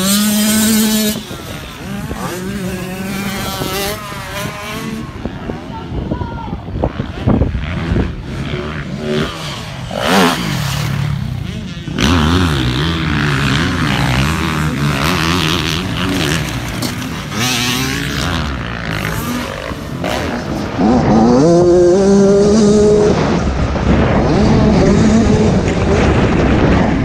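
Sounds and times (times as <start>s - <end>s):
dirt bike engine revving: 0.0s - 6.0s, 6.7s - 27.0s.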